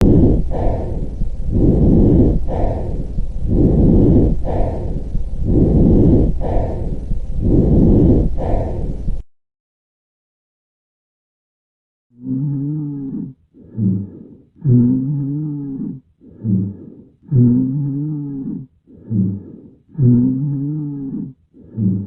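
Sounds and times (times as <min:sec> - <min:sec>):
breathing lung sounds: 0:00.0 - 0:09.3, 0:12.2 - 0:22.0.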